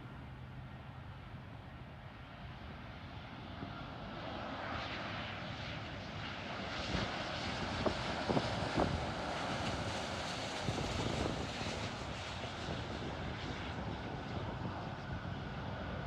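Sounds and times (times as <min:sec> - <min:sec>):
jet airliner engine noise: 0:00.0 - 0:16.0.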